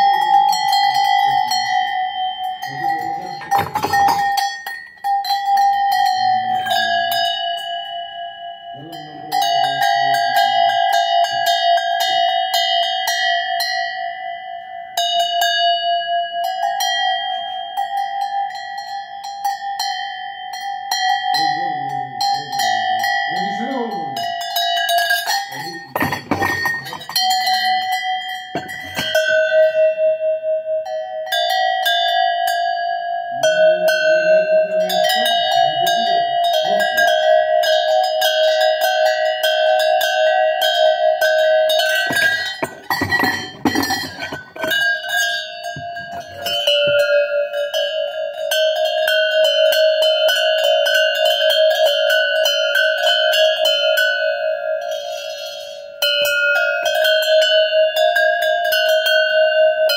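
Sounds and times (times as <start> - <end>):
goat bells clanging: 0.0 - 59.9.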